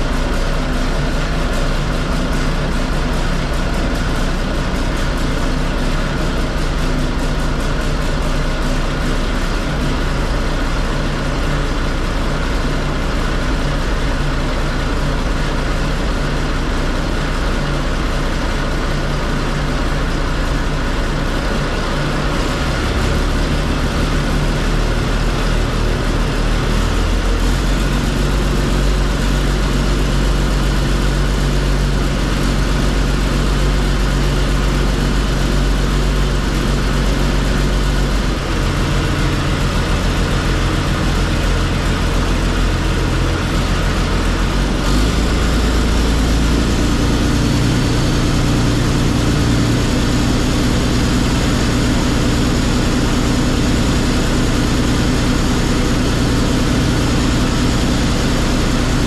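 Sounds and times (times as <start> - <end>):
diesel engine running rough: 0.0 - 59.0.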